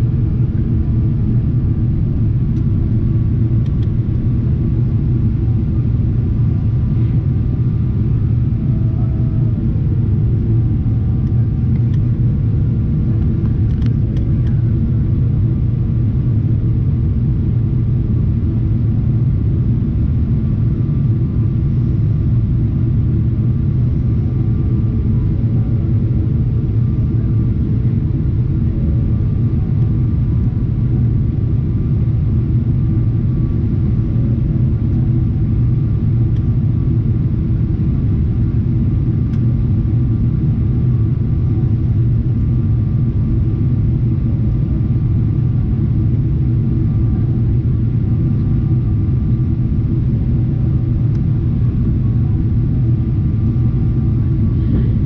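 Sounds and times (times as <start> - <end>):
jet engines rumbling in flight: 0.0 - 55.0.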